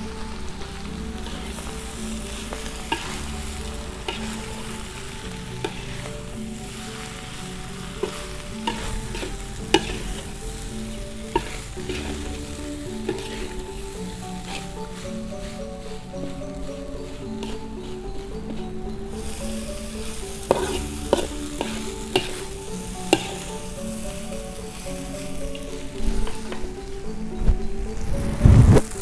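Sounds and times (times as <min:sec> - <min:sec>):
metal spatula scraping wok: 0:00.0 - 0:27.0
rice sizzling in a wok: 0:00.0 - 0:29.0.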